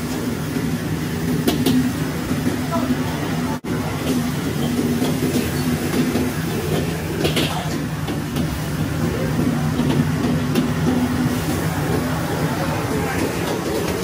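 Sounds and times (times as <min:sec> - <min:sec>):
gas burner and blower humming: 0:00.0 - 0:14.0.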